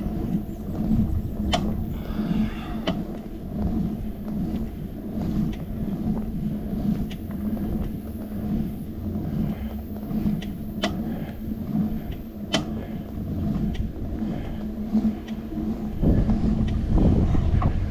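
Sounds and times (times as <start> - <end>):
bicycle tyre and wind rumble: 0.0 - 17.9.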